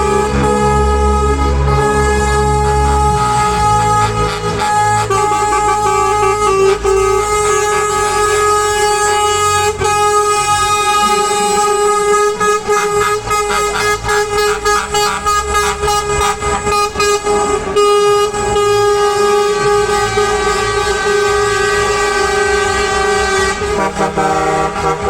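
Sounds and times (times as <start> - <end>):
truck air horn: 0.0 - 25.0
truck engines rumbling: 0.0 - 25.0.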